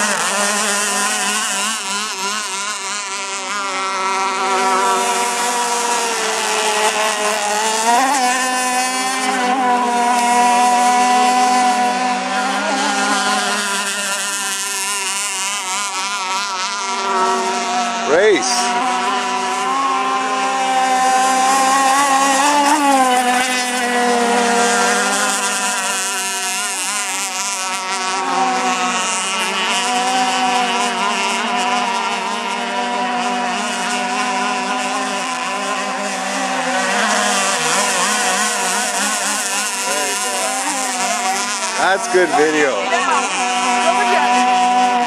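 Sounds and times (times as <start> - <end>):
rc boat motors buzzing whine: 0.0 - 45.0.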